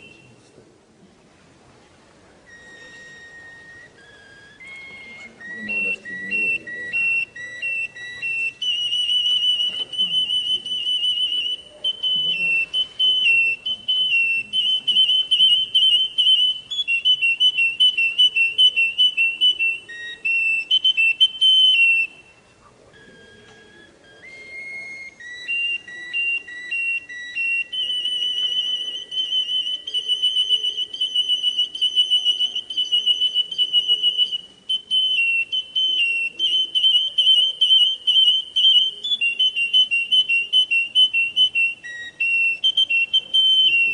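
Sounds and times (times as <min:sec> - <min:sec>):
canary singing trills: 0:00.0 - 0:00.5, 0:02.4 - 0:43.9.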